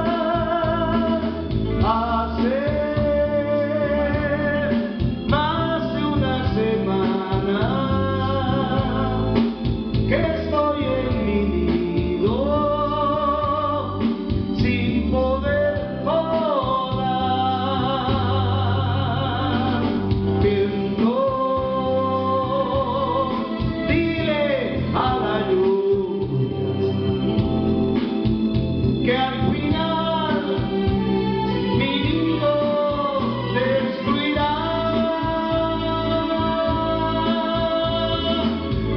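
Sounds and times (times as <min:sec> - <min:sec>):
man singing into microphone: 0:00.0 - 0:27.4, 0:29.0 - 0:38.9
recorded backing music: 0:00.0 - 0:38.9.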